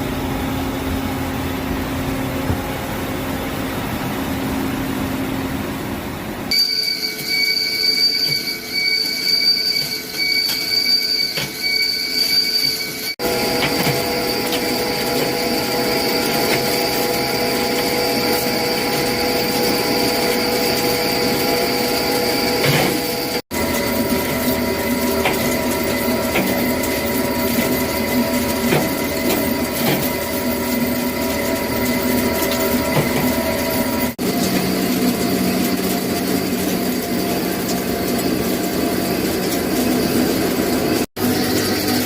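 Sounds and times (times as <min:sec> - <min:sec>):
lathe machining metal: 0:06.5 - 0:42.0.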